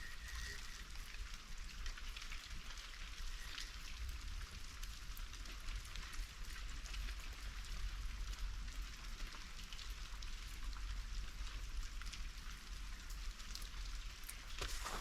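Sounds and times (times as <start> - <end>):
fine patter of tiny ticks: 0.0 - 15.0.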